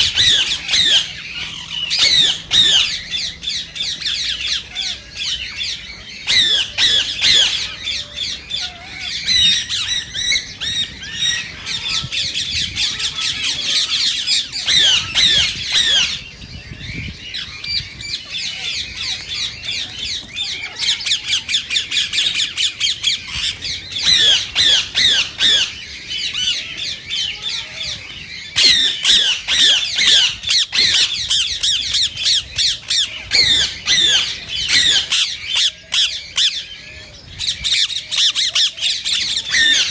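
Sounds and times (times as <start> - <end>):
parakeets squawking shrilly: 0.0 - 39.9.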